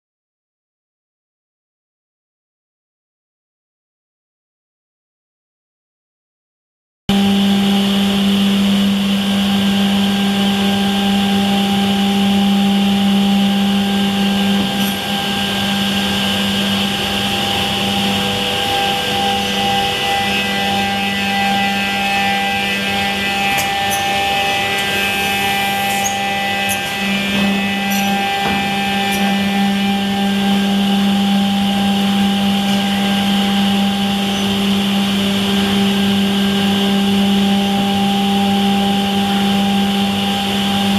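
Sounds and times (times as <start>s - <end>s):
high machine tones: 7.1s - 40.9s
machine motor hum: 7.1s - 40.9s.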